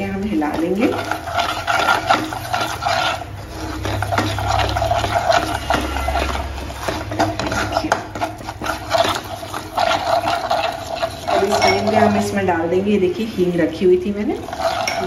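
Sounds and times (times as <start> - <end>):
spatula scraping a pan: 0.0 - 12.5, 14.0 - 15.0.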